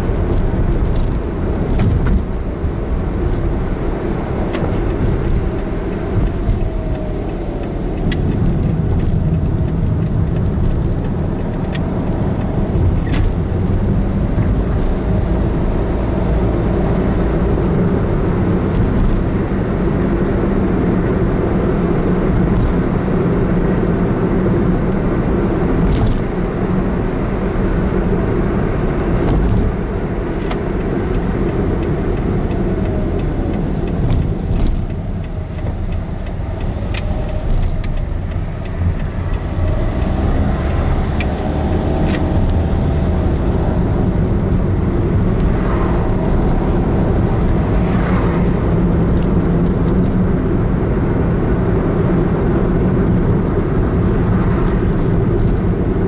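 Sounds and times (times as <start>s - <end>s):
car engine hum: 0.0s - 56.0s
road and tyre noise: 0.0s - 56.0s.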